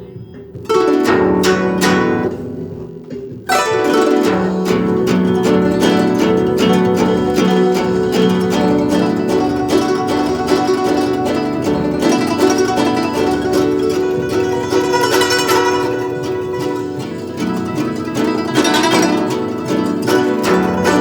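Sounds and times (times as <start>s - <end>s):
plucked zither notes: 0.0s - 21.0s.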